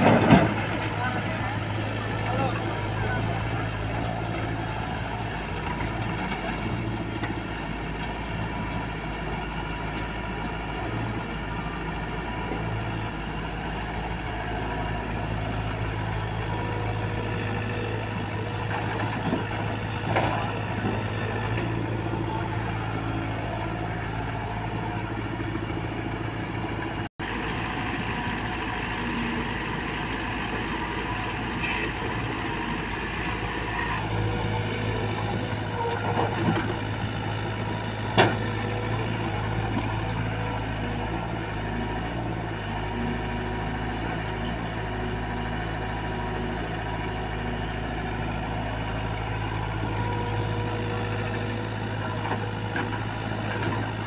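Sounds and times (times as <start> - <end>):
diesel engines humming: 0.0 - 54.0.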